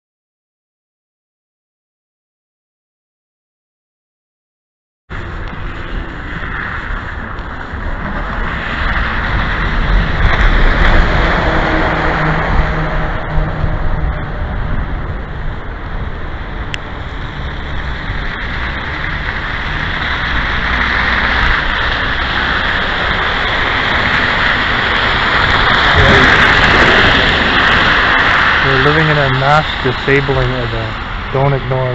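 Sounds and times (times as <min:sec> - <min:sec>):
tyres hissing on wet road: 0:05.1 - 0:31.9.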